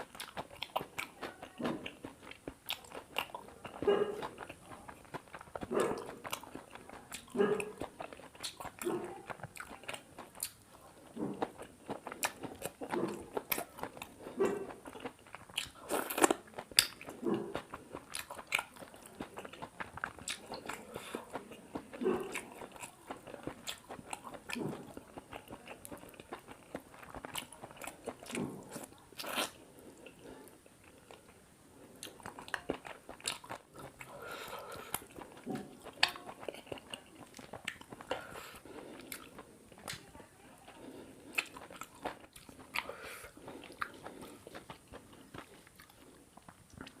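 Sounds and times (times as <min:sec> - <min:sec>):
close chewing and biting: 0:00.0 - 0:47.0.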